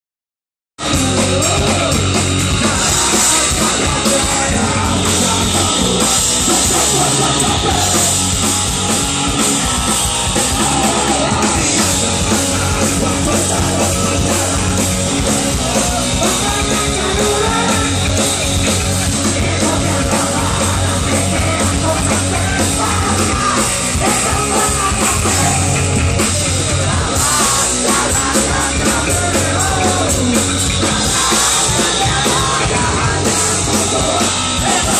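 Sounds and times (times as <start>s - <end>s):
drums: 0.8s - 34.9s
electric guitar: 0.8s - 34.9s
shouted vocals: 2.6s - 34.9s.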